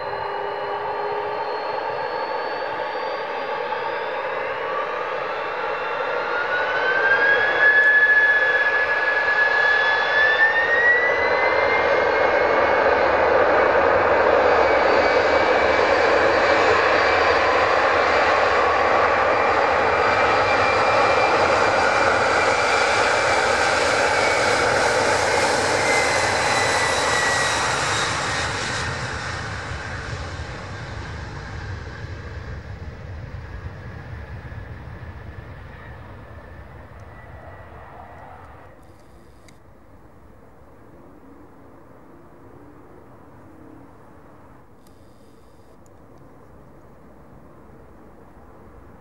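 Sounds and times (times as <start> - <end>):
jet engines roaring with fan whine: 0.0 - 49.0.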